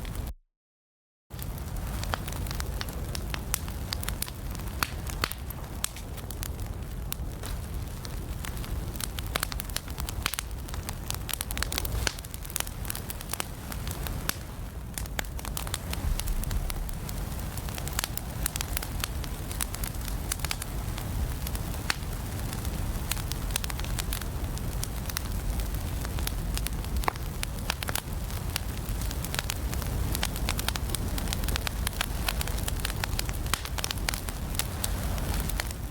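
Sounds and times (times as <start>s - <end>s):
fire crackling in a fireplace: 1.3s - 35.9s.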